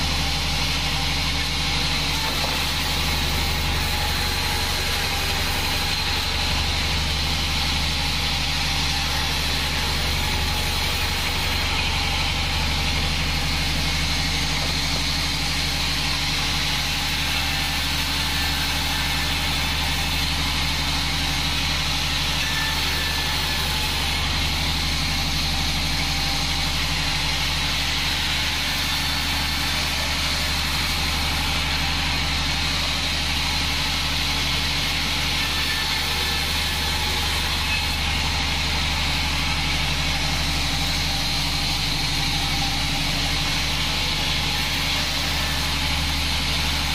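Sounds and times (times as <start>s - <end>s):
band sawmill cutting log: 0.0s - 46.9s.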